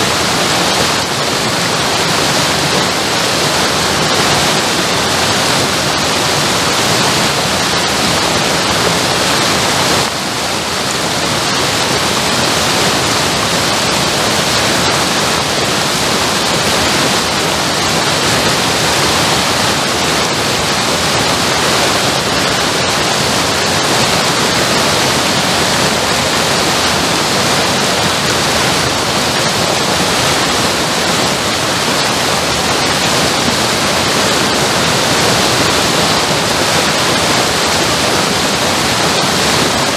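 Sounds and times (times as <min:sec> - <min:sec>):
water rushing down stony bank: 0:00.0 - 0:39.9.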